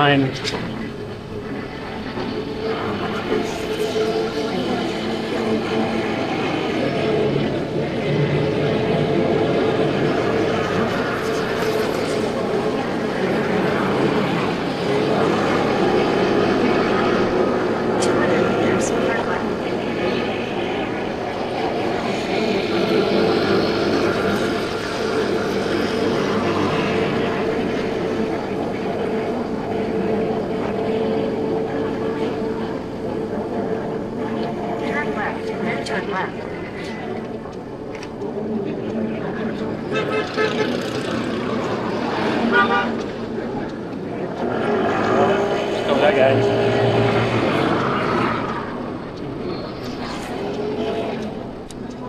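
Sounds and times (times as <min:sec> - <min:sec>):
road and wind noise: 0:00.0 - 0:52.0
scooter engine drone: 0:00.0 - 0:52.0.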